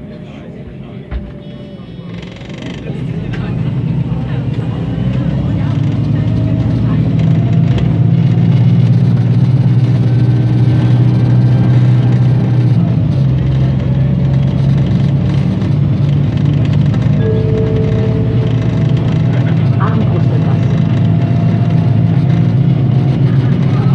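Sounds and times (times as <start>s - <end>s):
bus engine idling: 0.0s - 23.9s.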